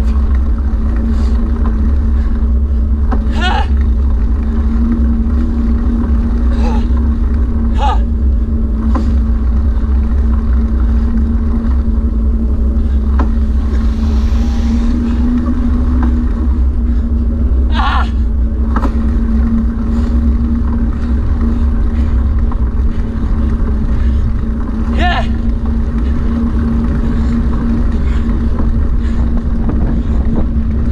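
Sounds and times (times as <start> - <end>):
motor hum with low rumble: 0.0 - 30.9.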